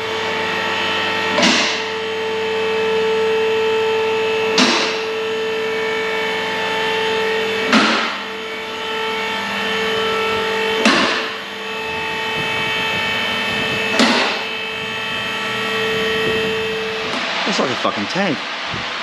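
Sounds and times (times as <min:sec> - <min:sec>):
power cutting tool whining: 0:00.1 - 0:19.0.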